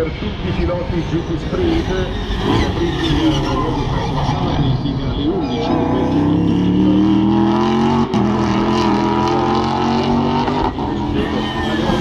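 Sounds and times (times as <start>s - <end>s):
racing car engine: 0.0s - 12.0s.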